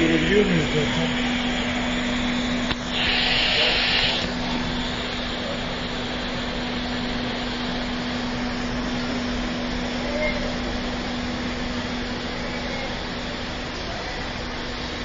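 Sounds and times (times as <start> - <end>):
machine-like hum: 0.0 - 15.0.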